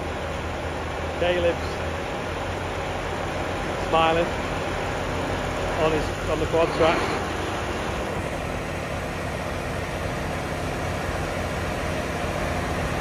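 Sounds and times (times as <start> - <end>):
diesel tractor engines idling: 0.0 - 13.0.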